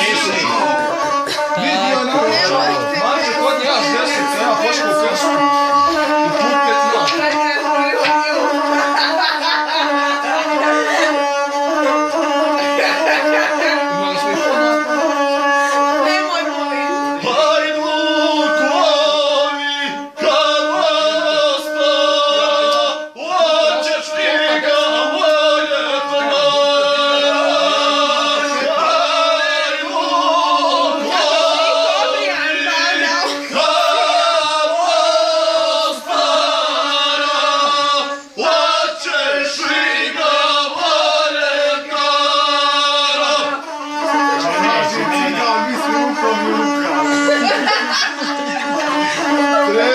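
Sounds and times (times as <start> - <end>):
bowed single-string fiddle: 0.0 - 49.9
man singing in chanting style: 0.0 - 49.9.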